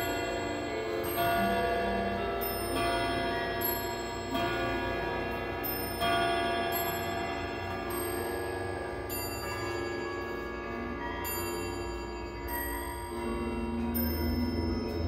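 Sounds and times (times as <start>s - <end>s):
clock chime rods ringing: 0.0s - 15.0s.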